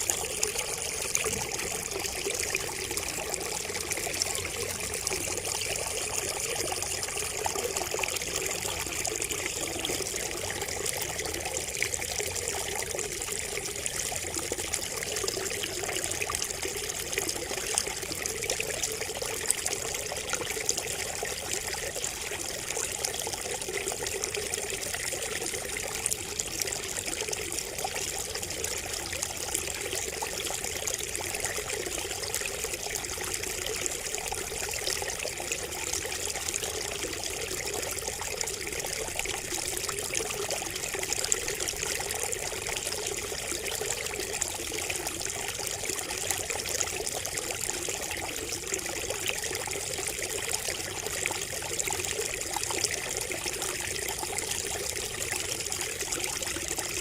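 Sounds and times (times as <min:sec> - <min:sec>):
water trickling from spout: 0:00.0 - 0:57.0.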